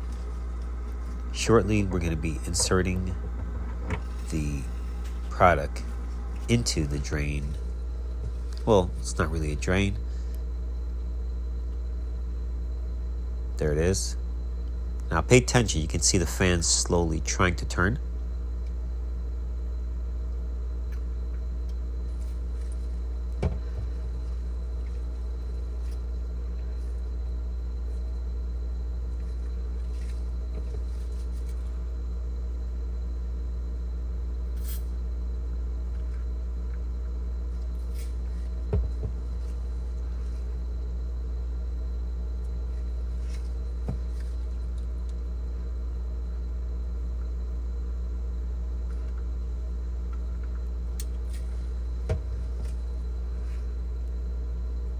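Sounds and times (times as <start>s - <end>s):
fan motor humming: 0.0s - 54.9s.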